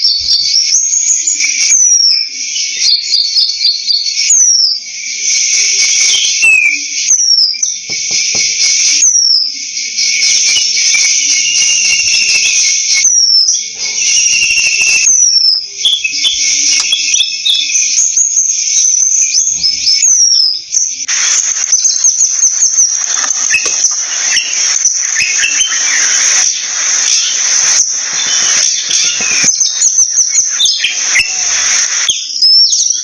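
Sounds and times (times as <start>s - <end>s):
bird whistling and chirping: 0.0s - 33.0s
high-pitched insect drone: 4.9s - 33.0s.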